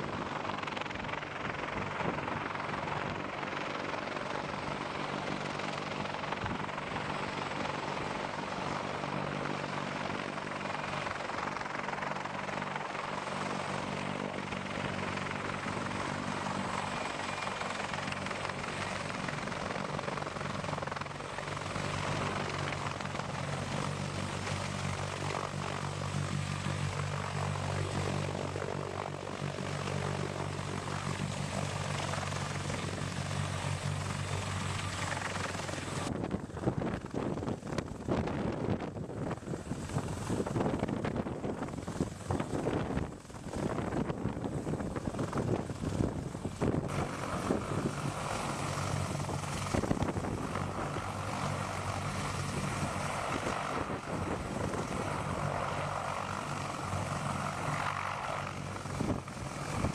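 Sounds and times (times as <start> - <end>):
helicopter rotor and turbine drone: 0.0 - 59.9.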